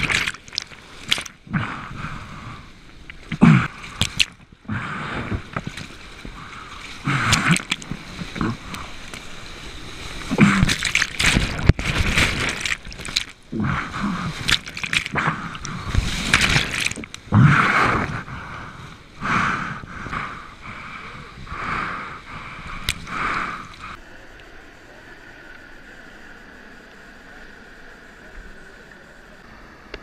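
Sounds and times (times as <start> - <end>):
whitewater rushing and splashing: 0.0 - 24.2.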